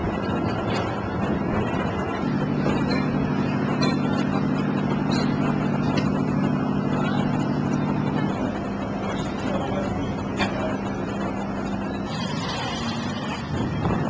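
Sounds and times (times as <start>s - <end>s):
engine droning: 0.0s - 14.0s
noisy outdoor background: 0.0s - 14.0s.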